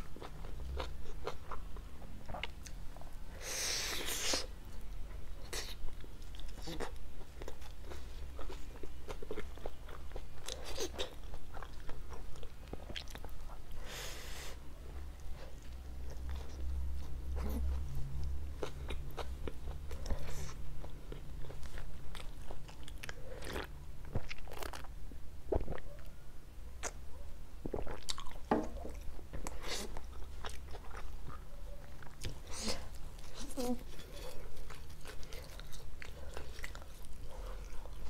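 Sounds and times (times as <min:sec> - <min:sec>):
person chewing pizza: 0:00.0 - 0:26.1, 0:26.8 - 0:38.0
low steady hum: 0:00.0 - 0:38.0.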